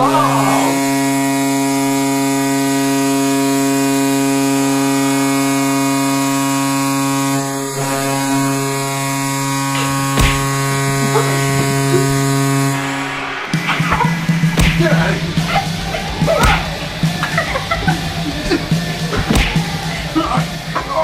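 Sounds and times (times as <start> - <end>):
goal horn blaring: 0.0 - 21.0.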